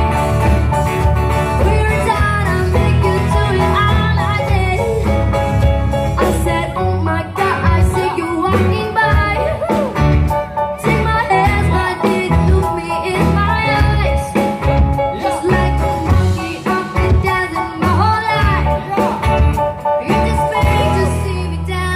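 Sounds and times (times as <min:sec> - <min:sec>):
live band music: 0:00.0 - 0:21.9.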